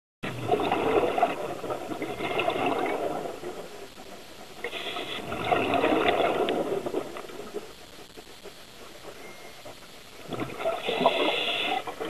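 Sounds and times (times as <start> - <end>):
underwater bubbles rushing: 0.2 - 12.0.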